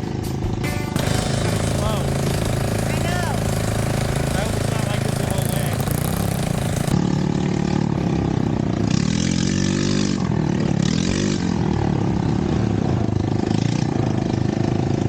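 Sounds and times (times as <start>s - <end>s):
buggy engine revving: 1.0s - 15.0s.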